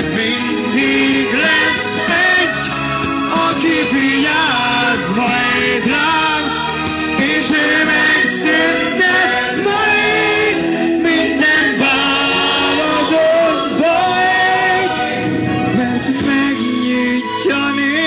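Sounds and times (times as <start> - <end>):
man singing into microphone: 0.0 - 18.0
musical accompaniment: 0.0 - 18.0.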